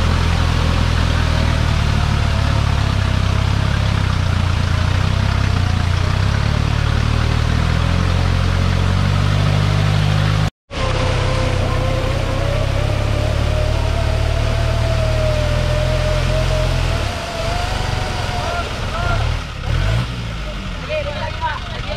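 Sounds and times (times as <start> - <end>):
wheels spinning in mud: 0.0 - 20.1
engine running under load: 0.0 - 21.9.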